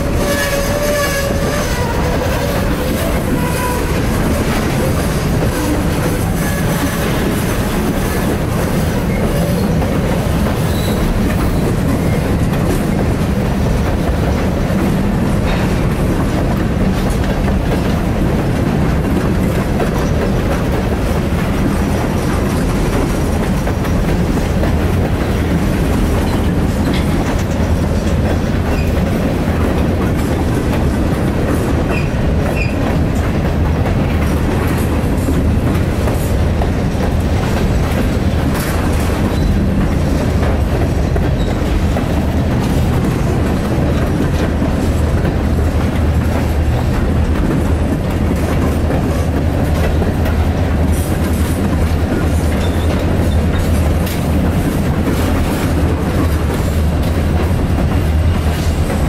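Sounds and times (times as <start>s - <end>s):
freight train rumble: 0.0s - 59.0s
wheel clatter over rail joints: 0.0s - 59.0s.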